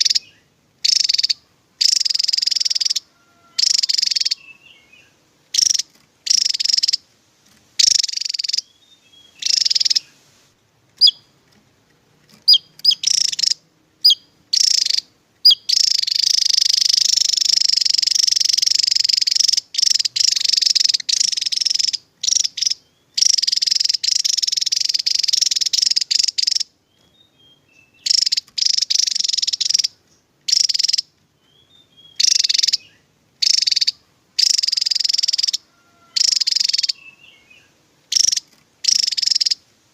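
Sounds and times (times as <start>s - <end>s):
bird trilling song: 0.0s - 10.2s, 10.9s - 11.6s, 12.2s - 39.7s.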